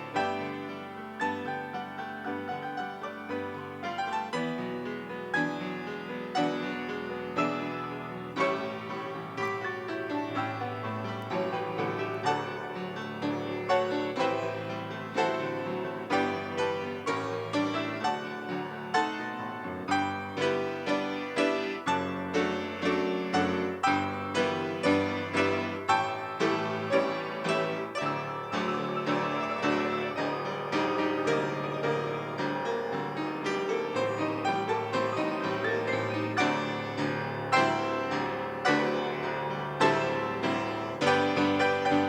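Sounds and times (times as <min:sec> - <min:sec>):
piano playing: 0:00.0 - 0:42.0.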